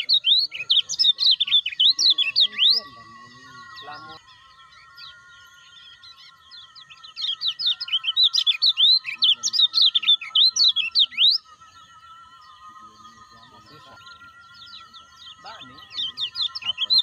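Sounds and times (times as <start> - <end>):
bird singing sharp chirps: 0.0 - 17.0
faint steady high tones: 0.0 - 17.0.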